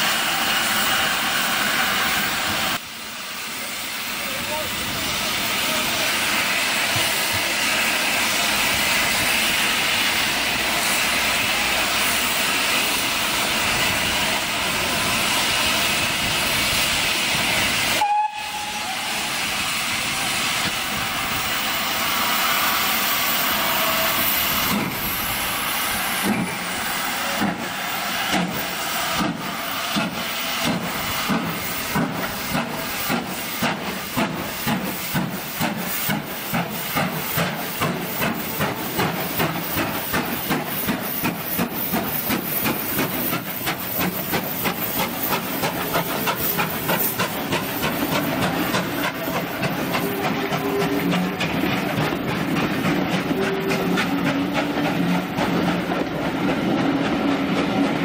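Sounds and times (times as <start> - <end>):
steam blowing: 0.0 - 58.0
steam locomotive exhaust beats: 0.0 - 58.0
steam locomotive hissing: 0.0 - 58.0.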